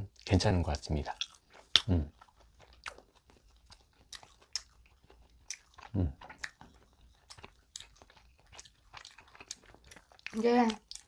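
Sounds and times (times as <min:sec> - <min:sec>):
moist mouth clicks and smacks: 0:01.1 - 0:11.0.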